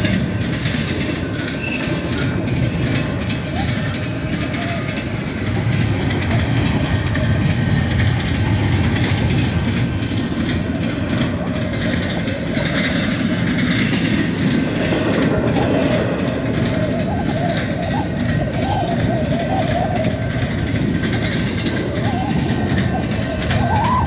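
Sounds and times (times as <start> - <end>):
train wheels rumbling and rattling: 0.0 - 24.0.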